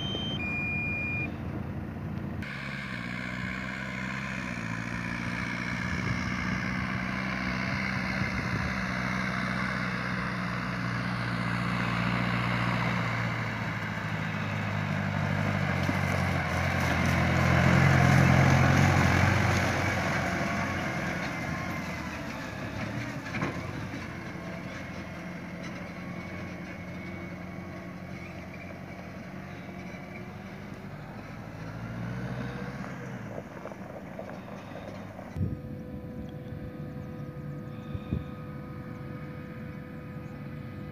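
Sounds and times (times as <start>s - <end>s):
tractor engine passing: 0.0s - 40.9s.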